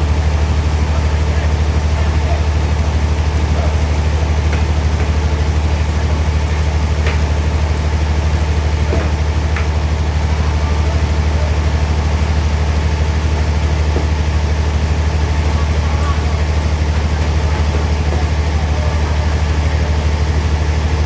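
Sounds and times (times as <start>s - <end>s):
bandsaw machinery humming: 0.0s - 21.0s.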